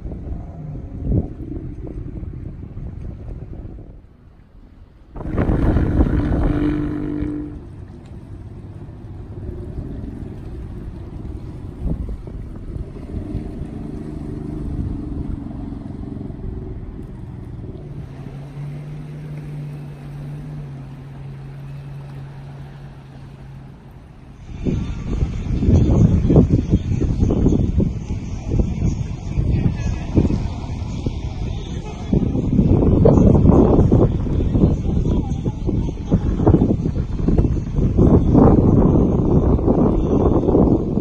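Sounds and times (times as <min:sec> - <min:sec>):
engine running: 0:00.0 - 0:41.0
low steady hum: 0:00.0 - 0:41.0.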